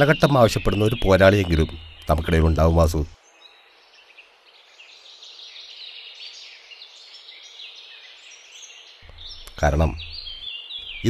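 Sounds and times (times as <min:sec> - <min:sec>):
faint outdoor hiss: 0:00.0 - 0:11.0
small birds chirping: 0:00.0 - 0:11.0.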